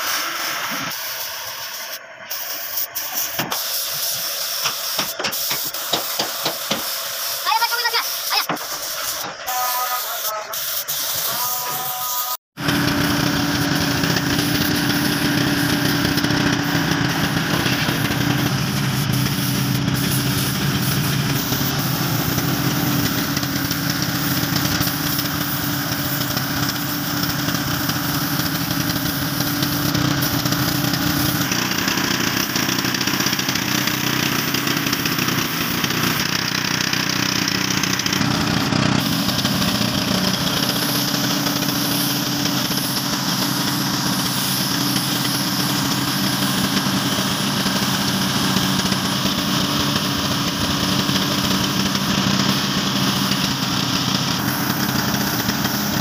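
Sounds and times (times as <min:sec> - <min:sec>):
engine running: 0:00.0 - 0:09.9, 0:12.5 - 0:56.0
paint spray gun air hiss: 0:00.0 - 0:56.0.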